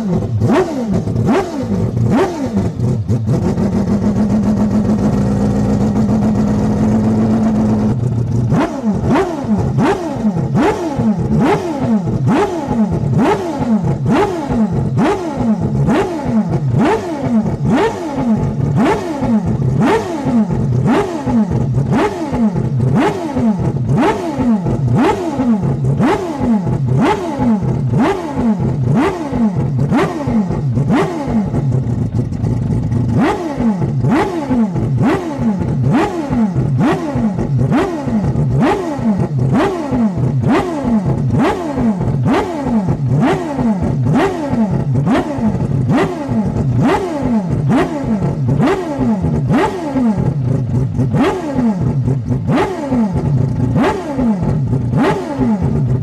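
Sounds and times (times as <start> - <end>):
rotary engine revving: 0.0 - 56.0.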